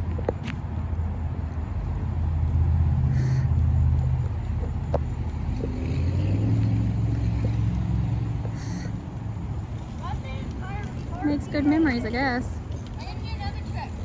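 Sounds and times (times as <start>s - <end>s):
engine humming at low speed: 0.0s - 14.0s.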